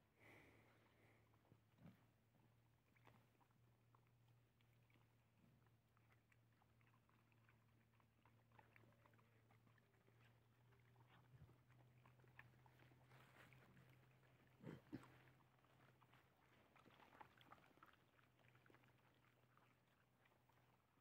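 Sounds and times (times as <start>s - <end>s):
dogs chewing and lapping: 1.0s - 21.0s.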